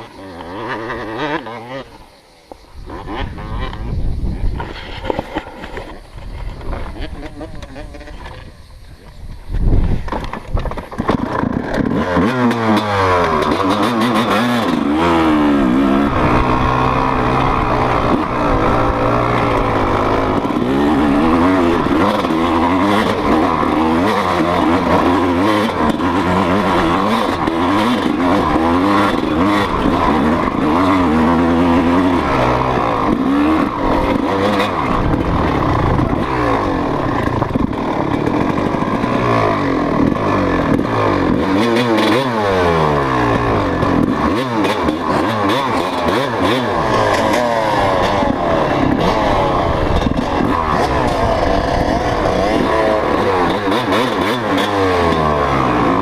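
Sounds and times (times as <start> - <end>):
dirt bike engine revving: 0.0 - 4.0, 9.6 - 56.0.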